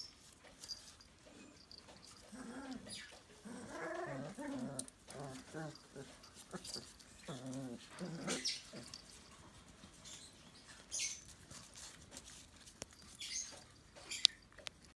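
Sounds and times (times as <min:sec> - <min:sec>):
paws scuffling on a blanket: 0:00.0 - 0:14.0.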